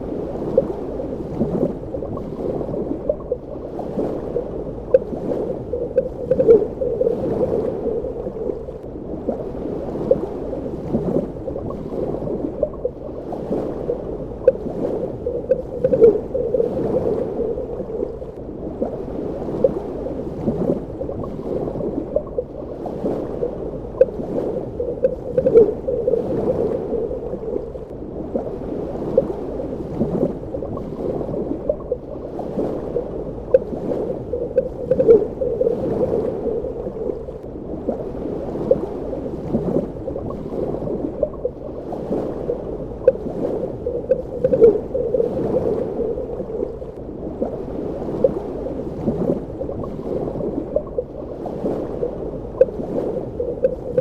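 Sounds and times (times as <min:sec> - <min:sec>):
bubbling gurgles and pops: 0:00.0 - 0:54.0
muffled underwater water rush: 0:00.0 - 0:54.0.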